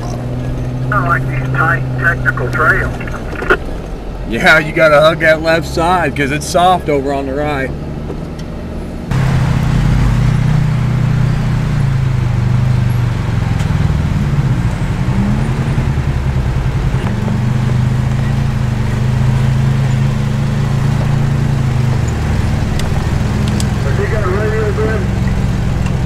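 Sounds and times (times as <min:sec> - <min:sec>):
vehicle engine at low revs: 0:00.0 - 0:26.0.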